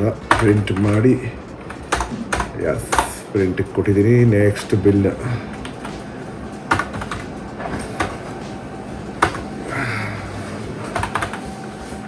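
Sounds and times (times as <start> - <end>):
printer humming: 0.0 - 12.0.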